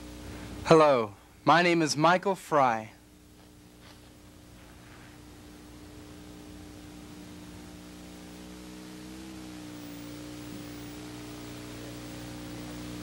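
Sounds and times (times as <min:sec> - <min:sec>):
steady electrical hum: 0:00.0 - 0:13.0
tape hiss: 0:00.0 - 0:13.0.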